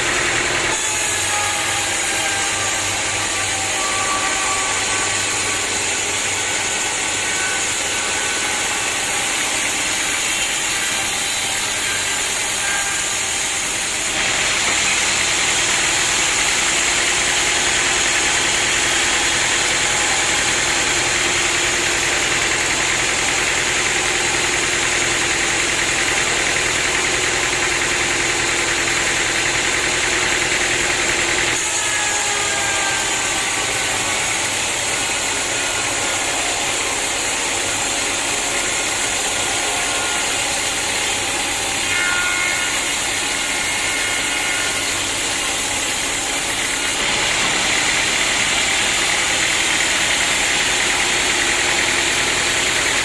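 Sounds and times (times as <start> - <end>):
sawmill saw running: 0.0 - 53.0.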